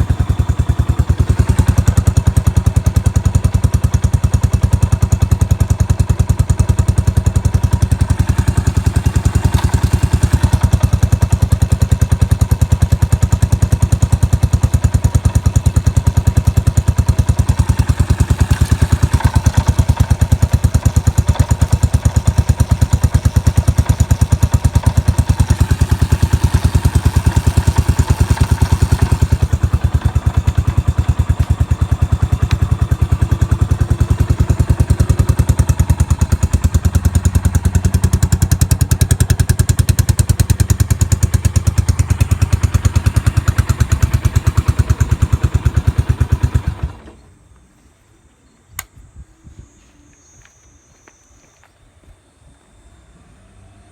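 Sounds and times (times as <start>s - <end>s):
motorcycle engine idling: 0.0s - 47.7s.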